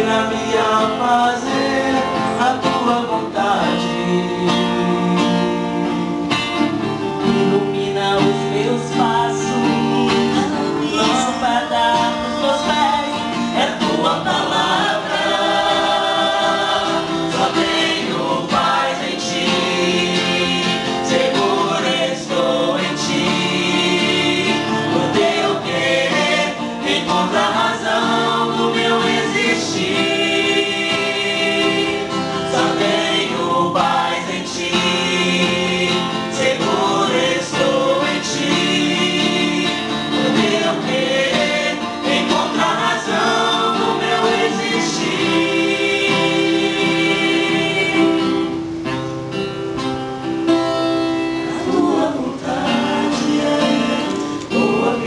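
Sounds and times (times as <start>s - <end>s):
group singing gospel song: 0.0s - 49.5s, 50.4s - 55.0s.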